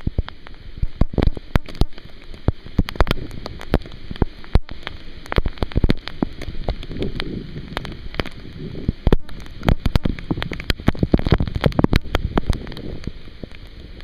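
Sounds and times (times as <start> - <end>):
low rumbling noise: 0.0 - 14.0
raindrops tapping: 0.0 - 14.0.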